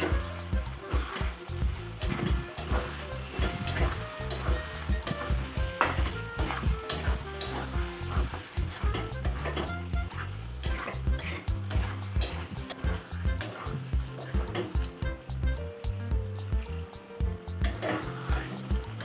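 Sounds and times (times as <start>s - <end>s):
utensil scraping and knocking pan: 0.0s - 15.5s, 17.2s - 19.0s
food sizzling in a pan: 0.0s - 19.0s.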